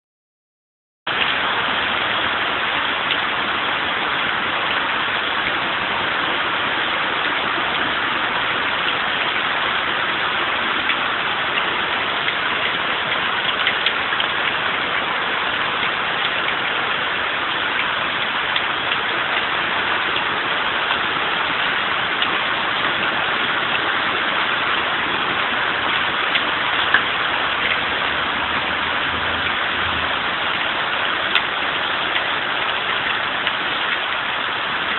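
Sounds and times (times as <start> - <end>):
hail pelting down: 1.1 - 34.9
hailstones ticking: 1.1 - 34.9.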